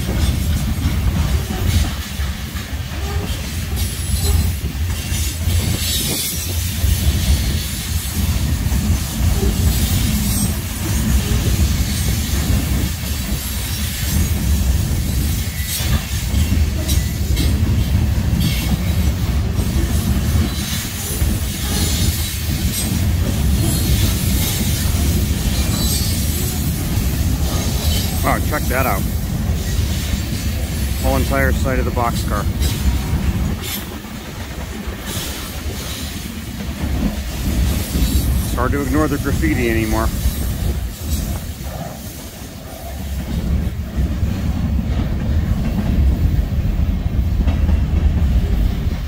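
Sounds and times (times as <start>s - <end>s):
steel wheels rumbling on rails: 0.0s - 49.0s.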